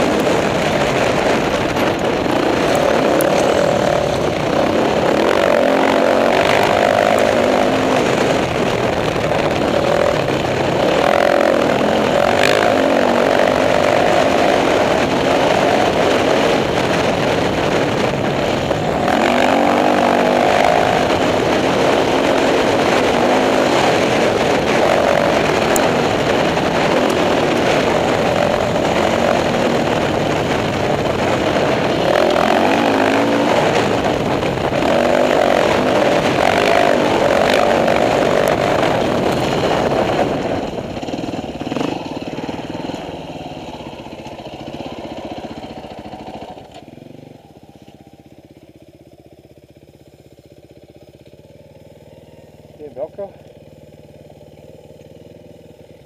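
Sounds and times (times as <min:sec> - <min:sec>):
dirt bike engine revving: 0:00.0 - 0:48.2.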